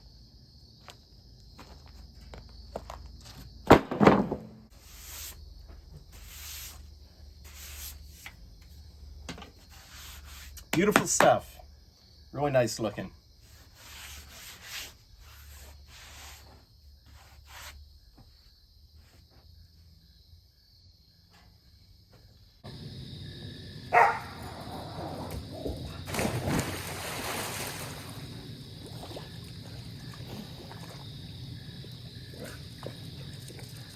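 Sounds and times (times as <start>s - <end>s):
insects trilling: 4.8s - 33.9s.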